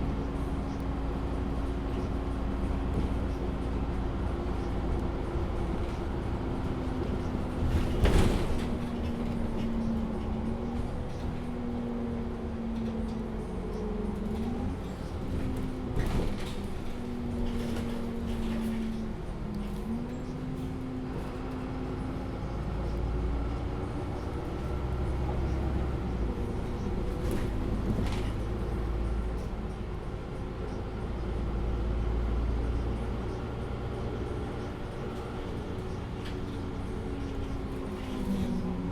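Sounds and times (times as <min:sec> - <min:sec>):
bus engine hum: 0:00.0 - 0:38.9.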